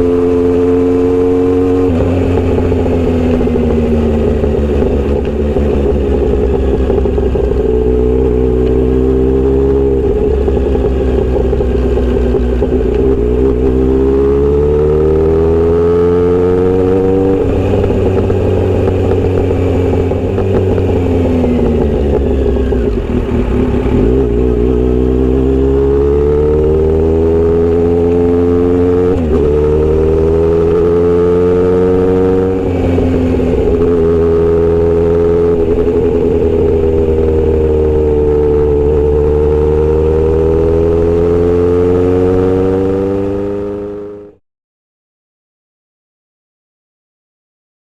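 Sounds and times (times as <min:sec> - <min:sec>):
motorcycle engine accelerating: 0:00.0 - 0:44.4.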